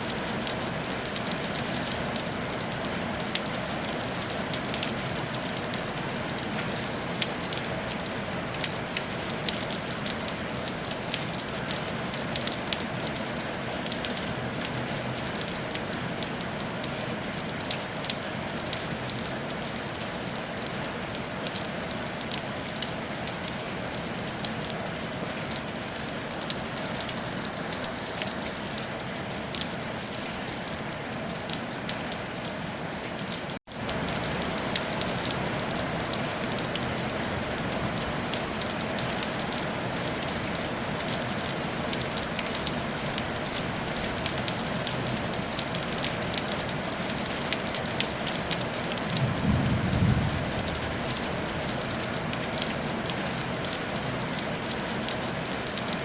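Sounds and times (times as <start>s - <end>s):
rain pattering on a tile roof: 0.0s - 56.0s.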